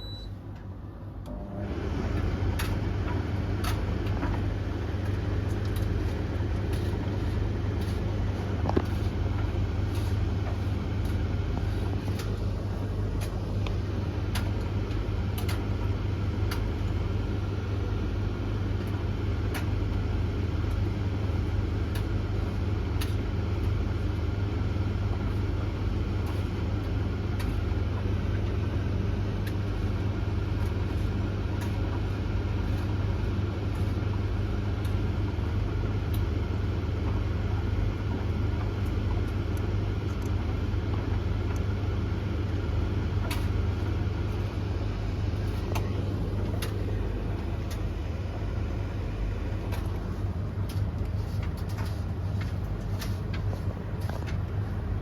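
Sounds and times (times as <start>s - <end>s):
tumble dryers droning: 0.0s - 55.0s.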